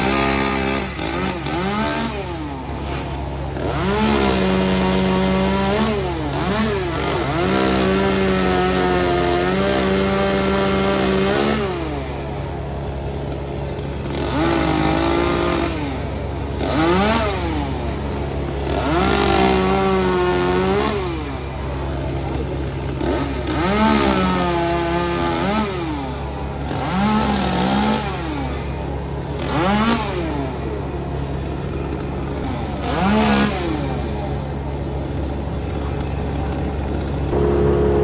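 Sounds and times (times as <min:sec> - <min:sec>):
chainsaw idling and revving: 0:00.0 - 0:38.0.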